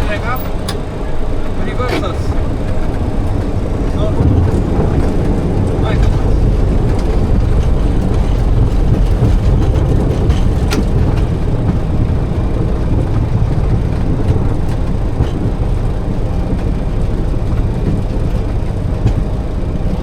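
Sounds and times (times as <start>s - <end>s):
engine and wheel rumble: 0.0s - 20.0s.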